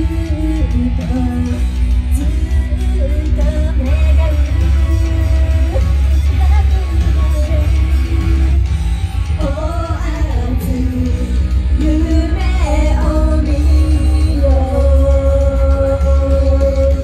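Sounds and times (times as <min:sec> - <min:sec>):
pop backing track with heavy bass: 0:00.0 - 0:17.0
women singing into microphones: 0:00.0 - 0:17.0.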